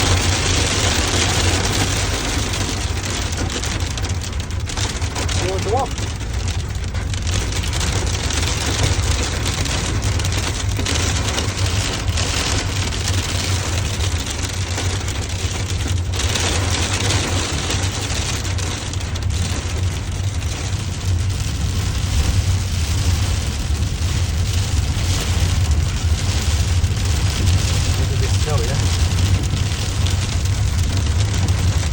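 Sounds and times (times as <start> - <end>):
heavy rain and ice pelting: 0.0 - 31.9
low rumble: 0.0 - 31.9.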